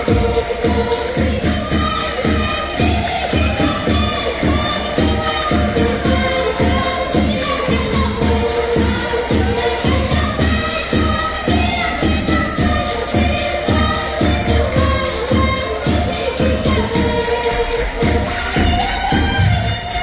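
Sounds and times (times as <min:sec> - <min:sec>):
jingling percussion: 0:00.0 - 0:20.0
stringed instruments: 0:00.0 - 0:20.0
voices singing together: 0:00.0 - 0:20.0.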